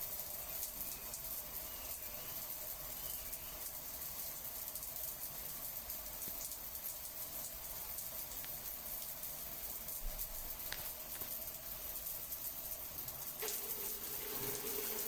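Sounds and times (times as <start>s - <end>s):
running water hissing: 0.0s - 15.0s.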